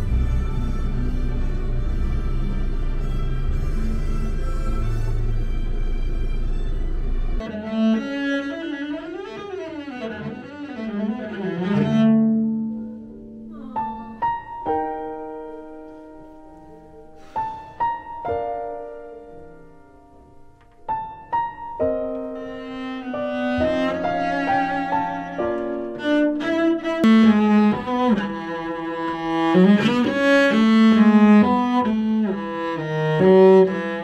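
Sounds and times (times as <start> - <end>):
cello slow melody: 0.0 - 34.0
piano chords: 0.0 - 34.0.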